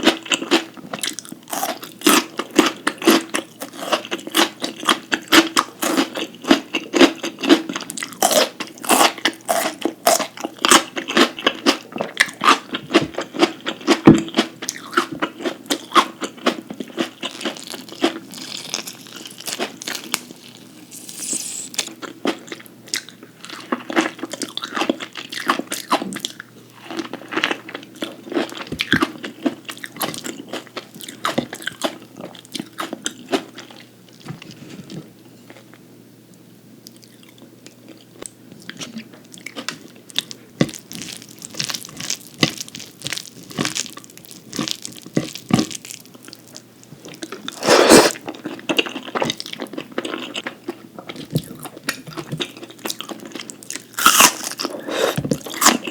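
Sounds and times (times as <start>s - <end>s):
person chewing crisp food: 0.0s - 34.5s, 36.9s - 55.9s.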